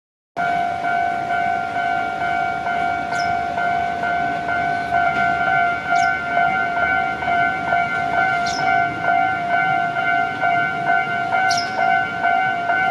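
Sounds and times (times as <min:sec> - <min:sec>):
level-crossing bell dinging: 0:00.4 - 0:12.9.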